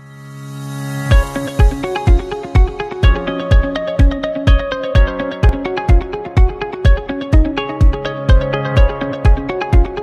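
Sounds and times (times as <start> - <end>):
kick drum beat: 1.1 - 10.0.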